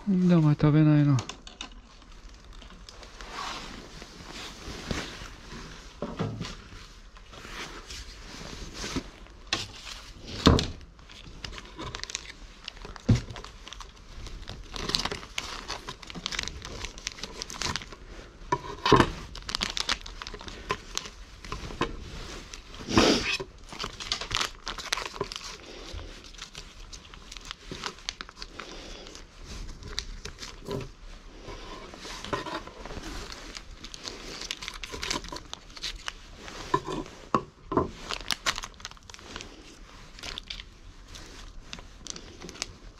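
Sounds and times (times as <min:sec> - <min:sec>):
foil pouches crinkling: 0:00.1 - 0:42.9.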